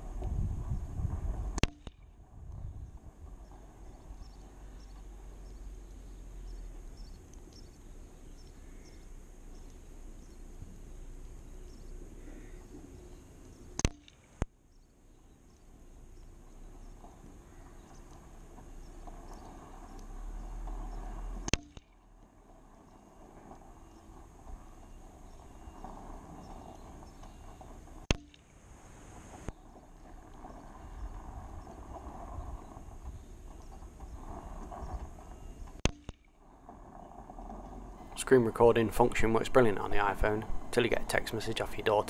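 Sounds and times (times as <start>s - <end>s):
wind rumble on microphone: 0.0s - 14.4s, 15.2s - 28.1s, 28.7s - 42.0s.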